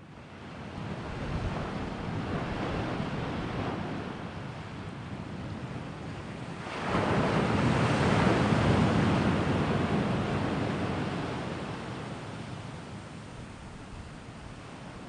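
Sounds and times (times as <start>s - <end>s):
sea waves breaking on shore: 0.4s - 15.0s.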